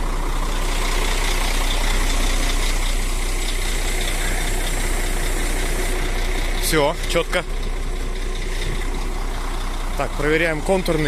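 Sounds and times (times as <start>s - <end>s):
truck diesel engine idling: 0.0s - 11.0s.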